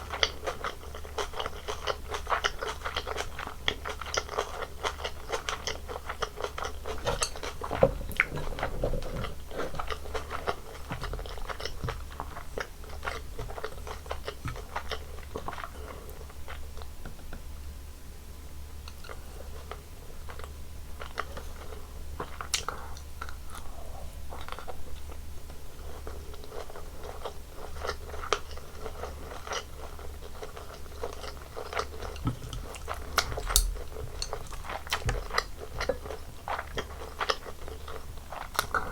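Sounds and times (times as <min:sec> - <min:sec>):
chewing with crisp crunches: 0:00.0 - 0:17.0, 0:18.8 - 0:38.9.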